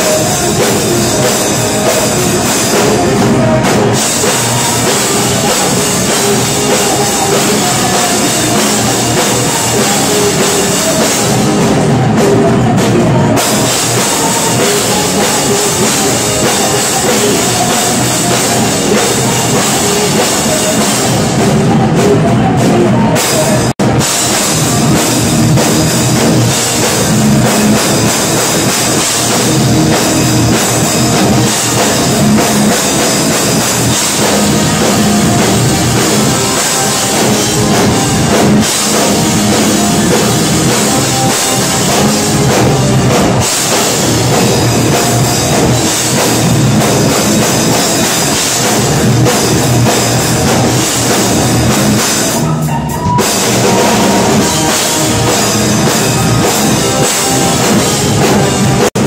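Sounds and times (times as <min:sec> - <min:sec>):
bass guitar: 0:00.0 - 0:59.0
drum kit with cymbals: 0:00.0 - 0:59.0
electric guitars: 0:00.0 - 0:59.0.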